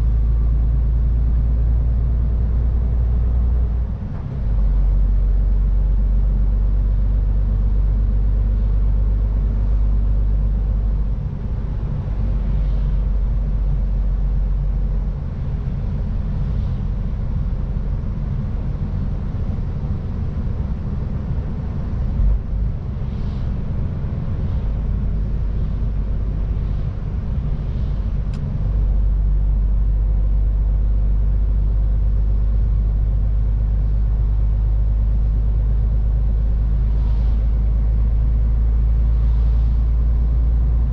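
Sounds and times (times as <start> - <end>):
diesel truck engine drone: 0.0 - 40.9
road noise: 0.0 - 40.9.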